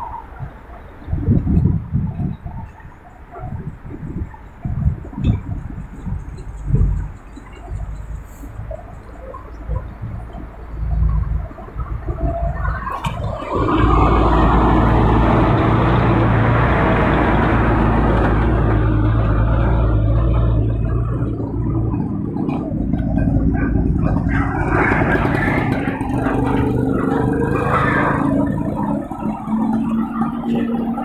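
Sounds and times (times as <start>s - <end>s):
auto rickshaw engine idling: 3.0s - 31.0s.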